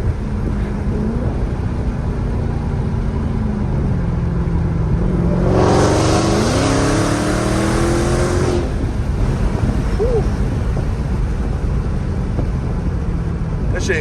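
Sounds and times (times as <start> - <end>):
car engine accelerating: 0.0 - 13.9
road noise: 0.0 - 14.0.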